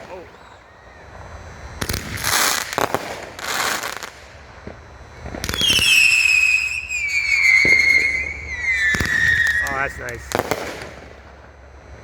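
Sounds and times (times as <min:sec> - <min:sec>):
falling fireworks whistle: 0:00.0 - 0:11.4
fireworks hissing crackle: 0:00.0 - 0:12.0.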